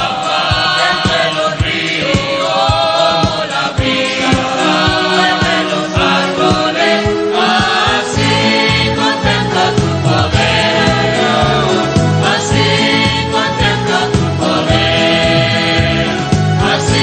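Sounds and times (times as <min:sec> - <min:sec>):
choir singing hymn-like chords: 0:00.0 - 0:17.0
steady beat: 0:00.0 - 0:17.0.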